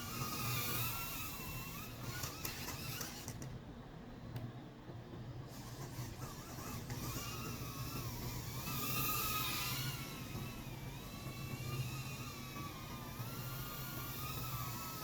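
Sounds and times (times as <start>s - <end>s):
drone motors whining: 0.0s - 3.4s, 5.5s - 15.0s.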